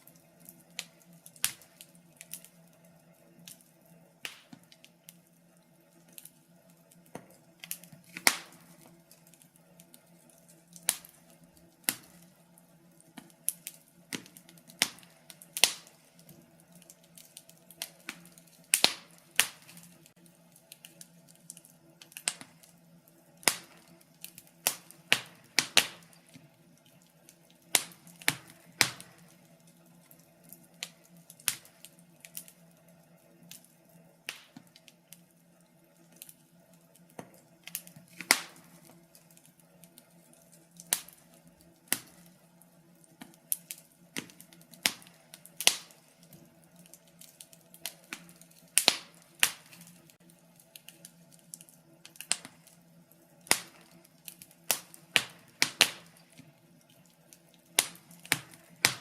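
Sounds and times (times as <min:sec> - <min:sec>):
faint steady hum: 0:00.0 - 0:59.0
wood fire crackling and popping: 0:00.0 - 0:59.0.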